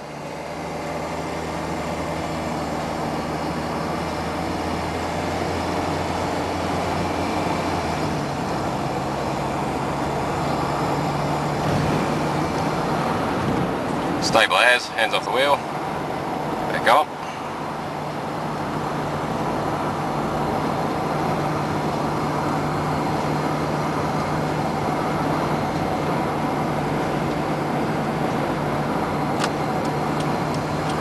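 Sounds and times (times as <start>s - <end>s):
diesel engine drone: 0.0s - 31.0s
road and wind noise: 0.0s - 31.0s.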